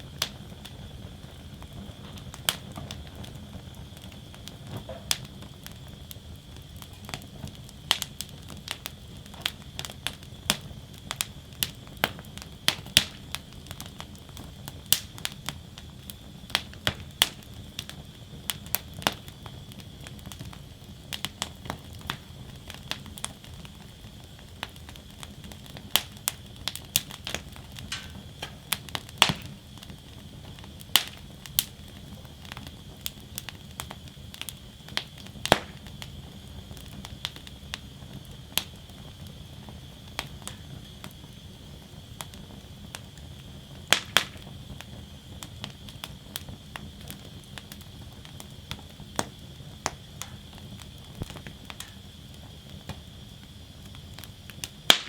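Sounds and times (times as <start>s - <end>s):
low rumble and hiss of flames: 0.0s - 55.0s
wood fire crackling and popping: 0.0s - 55.0s.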